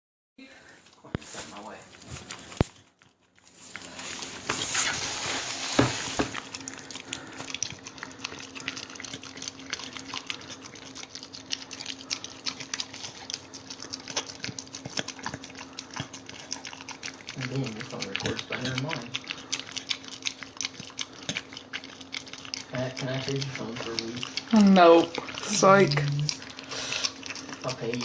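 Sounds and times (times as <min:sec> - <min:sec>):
dog licking with wet smacks: 0:01.0 - 0:28.0.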